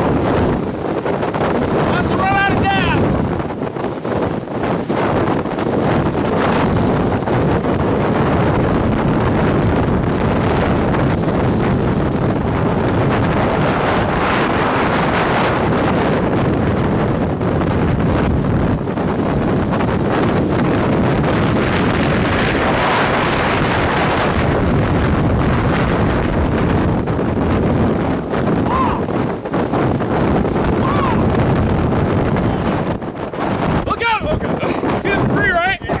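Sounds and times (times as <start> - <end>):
strong wind rushing: 0.0 - 36.0.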